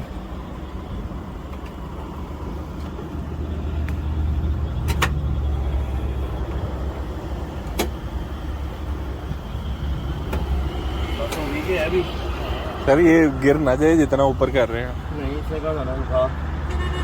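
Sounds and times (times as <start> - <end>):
heavy vehicle rumble: 0.0 - 17.0.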